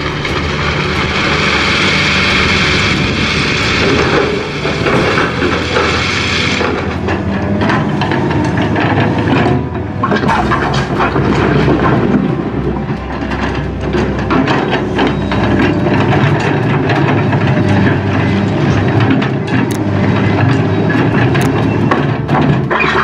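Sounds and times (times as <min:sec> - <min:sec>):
hydraulic excavator running: 0:00.0 - 0:23.0.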